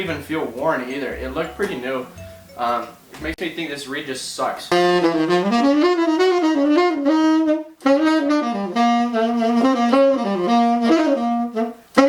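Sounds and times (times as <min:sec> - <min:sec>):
tenor saxophone jazz phrase: 0:00.0 - 0:12.0.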